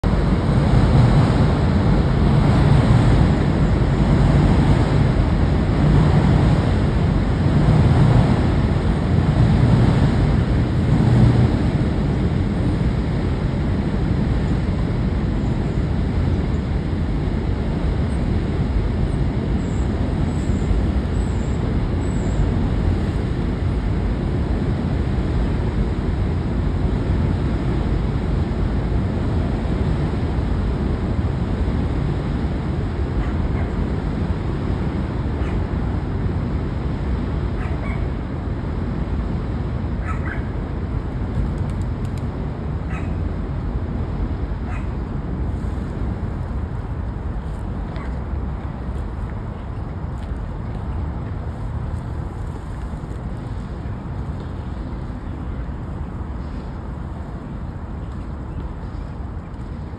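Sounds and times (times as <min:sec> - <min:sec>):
outdoor background rumble: 0:00.0 - 0:59.9.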